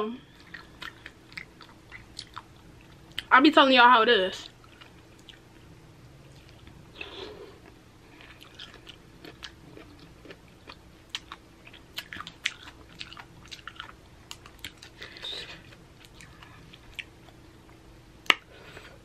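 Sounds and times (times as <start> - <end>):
chewing with crisp crunching: 0.3 - 3.3, 4.4 - 18.9.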